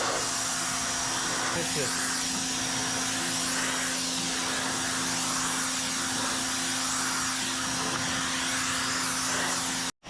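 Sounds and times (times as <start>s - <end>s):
pressure washer motor humming: 0.0s - 10.0s.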